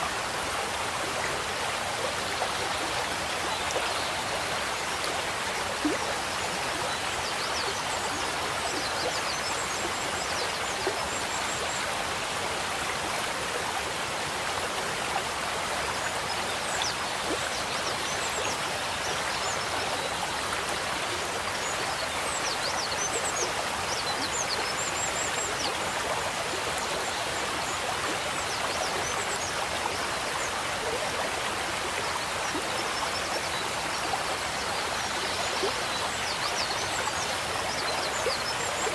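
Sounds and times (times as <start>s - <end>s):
water running in a pond: 0.0s - 38.9s.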